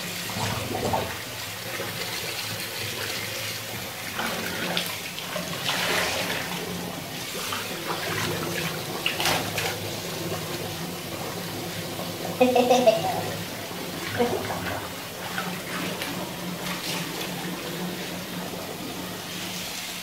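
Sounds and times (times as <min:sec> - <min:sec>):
water running and splashing: 0:00.0 - 0:20.0.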